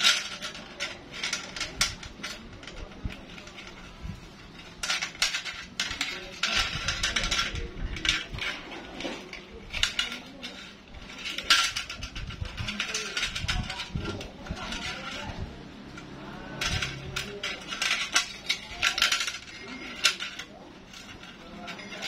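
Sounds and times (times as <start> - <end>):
metal spring clinking and scraping: 0.0 - 22.0.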